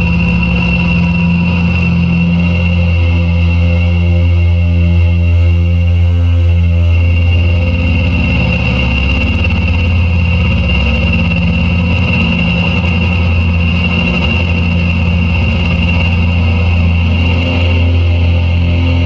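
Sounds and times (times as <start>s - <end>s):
fluttering low drone hum: 0.0s - 19.0s
high ringing tone: 0.0s - 19.0s.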